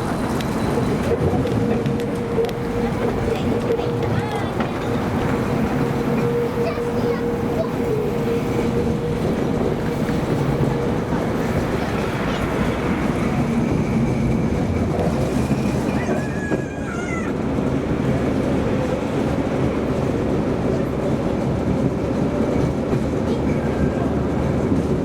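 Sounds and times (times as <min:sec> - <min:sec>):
tram motors and wheels rumbling: 0:00.0 - 0:25.0.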